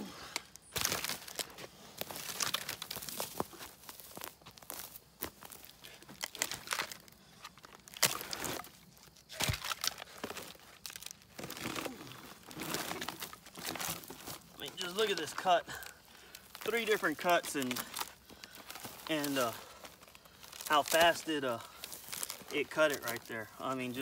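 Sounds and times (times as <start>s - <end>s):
logs scraping as moved: 0.4s - 24.0s
footsteps crunching on dry grass: 0.6s - 24.0s.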